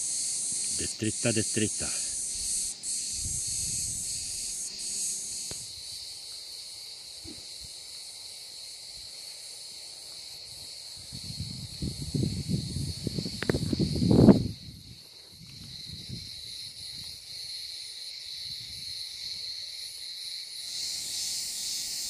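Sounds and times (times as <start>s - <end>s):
insect chorus shrilling: 0.0s - 22.0s.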